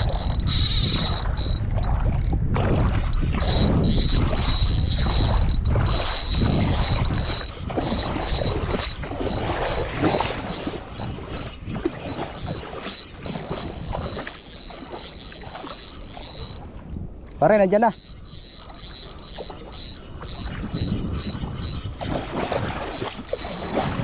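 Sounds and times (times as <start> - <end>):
fishing rod handling clicks: 0.0 - 2.4, 3.1 - 16.7, 17.7 - 22.0, 22.8 - 24.0
spinning reel being cranked: 0.0 - 2.4, 3.1 - 16.6, 17.6 - 22.0, 22.8 - 24.0
wind buffeting microphone: 0.0 - 24.0.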